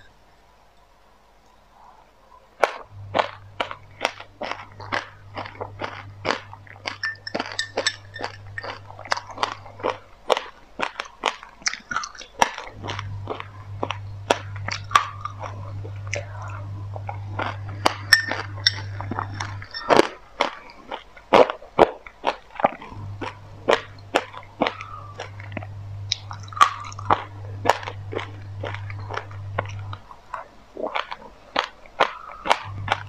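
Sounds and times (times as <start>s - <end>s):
crunchy chewing: 2.6s - 33.0s.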